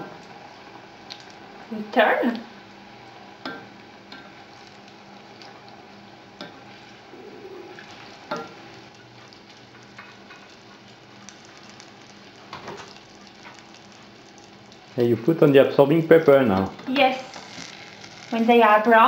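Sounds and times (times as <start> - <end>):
fritters sizzling in oil: 0.0 - 19.0.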